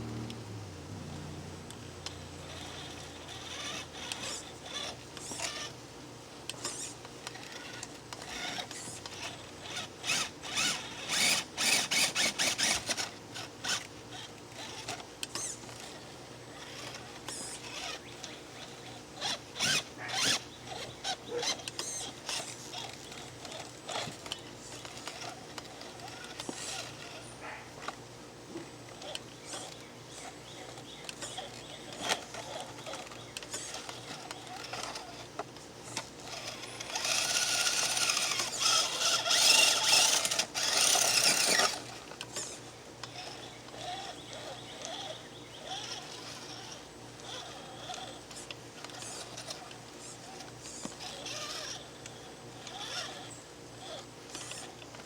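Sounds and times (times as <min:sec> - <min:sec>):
small geared drivetrain whirring: 0:00.0 - 0:05.8, 0:06.4 - 0:55.0.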